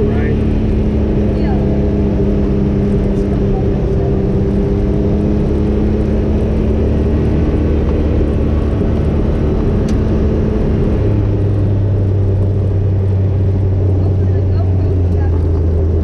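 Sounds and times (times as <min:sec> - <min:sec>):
road noise on dirt road: 0:00.0 - 0:16.0
vehicle engine hum: 0:00.0 - 0:16.0.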